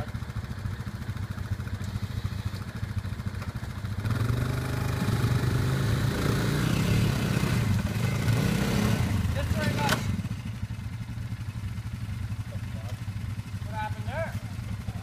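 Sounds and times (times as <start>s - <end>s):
atv engines idling and revving: 0.0s - 15.0s.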